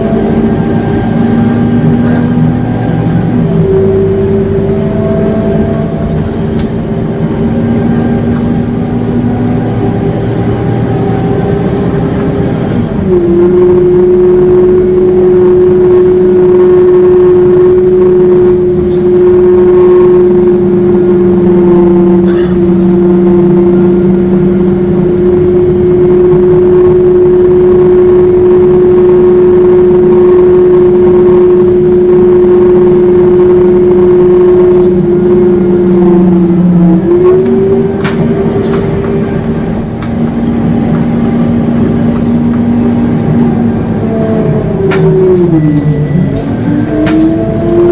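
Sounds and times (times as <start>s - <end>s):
bus engine with howling whine: 0.0s - 47.9s.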